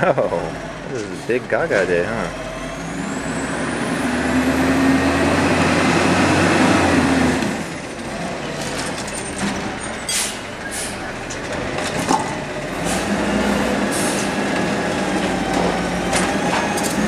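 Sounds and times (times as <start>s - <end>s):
garbage truck diesel engine: 0.0s - 17.0s.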